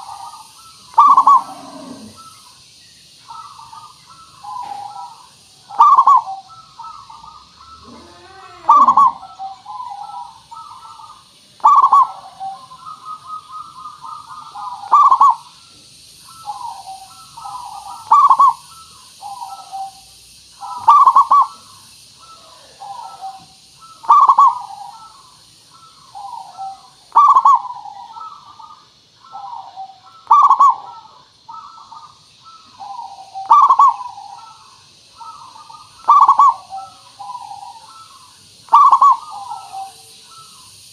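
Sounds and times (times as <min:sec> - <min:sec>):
dove cooing: 0:00.0 - 0:02.5, 0:03.3 - 0:40.7
steady high hiss: 0:00.0 - 0:40.9.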